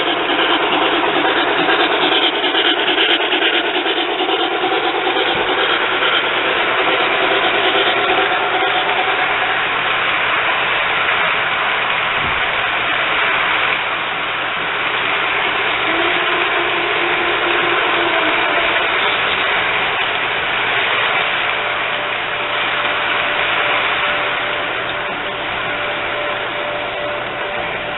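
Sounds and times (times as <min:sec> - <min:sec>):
model train rattling on track: 0:00.0 - 0:27.9.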